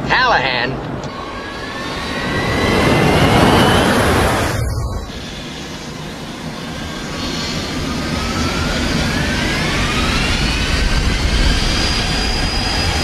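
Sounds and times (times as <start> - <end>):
jet engines roaring: 0.0 - 13.0
rising engine whines: 0.8 - 13.0.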